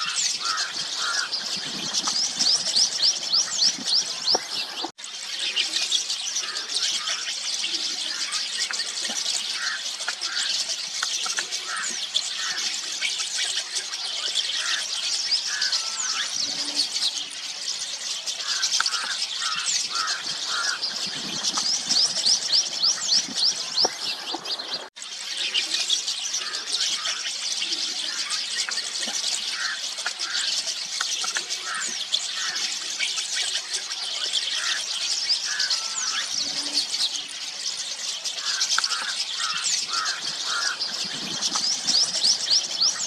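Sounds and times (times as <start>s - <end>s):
starlings chattering: 0.0s - 43.0s.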